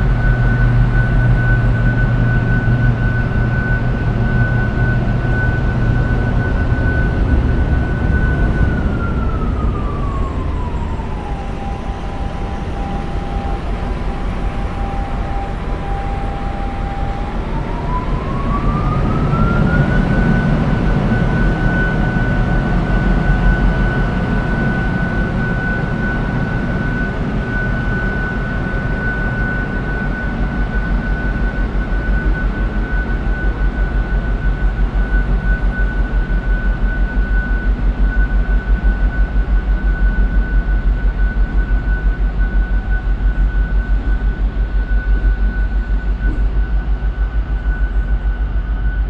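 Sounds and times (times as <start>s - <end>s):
diesel locomotive engine running: 0.0s - 49.0s
high whine sliding in pitch: 0.0s - 49.0s.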